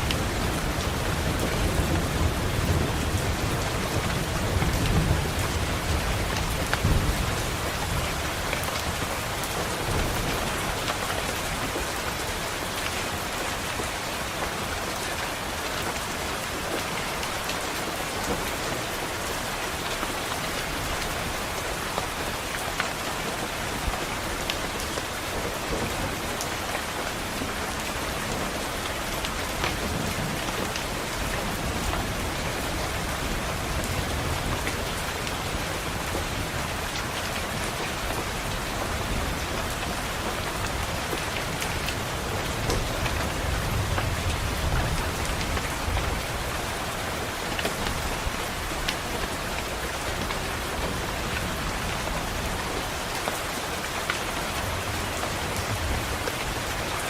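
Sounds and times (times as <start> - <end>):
rain pattering on a window: 0.0 - 57.0.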